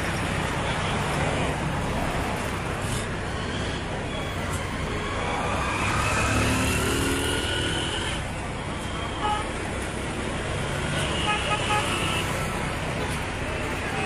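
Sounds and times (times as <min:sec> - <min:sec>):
rumble of vehicles going by: 0:00.0 - 0:14.0.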